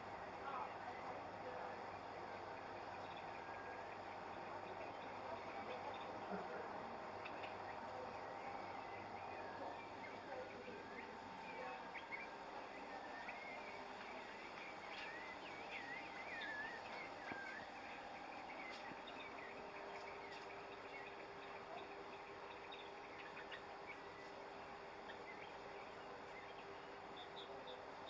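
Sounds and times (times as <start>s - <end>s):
low hum and hiss: 0.0s - 28.0s
small birds chirping: 0.0s - 28.0s.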